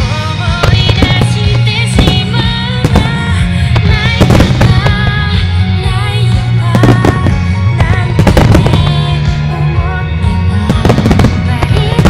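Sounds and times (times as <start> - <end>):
fireworks bangs and pops: 0.0 - 9.6, 10.6 - 12.0
music: 0.0 - 12.0.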